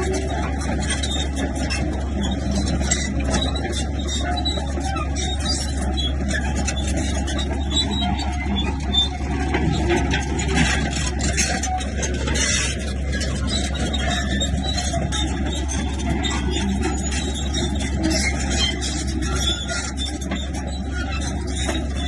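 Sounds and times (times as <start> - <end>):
bulldozer engine drone: 0.0 - 22.0
metallic clatter and scraping: 0.0 - 22.0.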